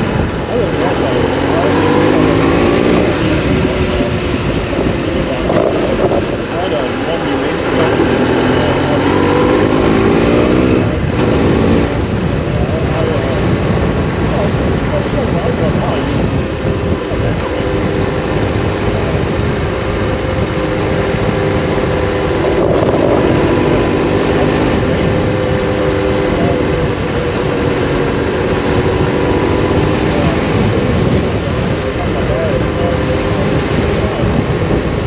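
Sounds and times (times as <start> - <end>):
motorcycle engine running: 0.0 - 35.0
road rumble: 0.0 - 35.0
wind noise on microphone: 0.0 - 35.0.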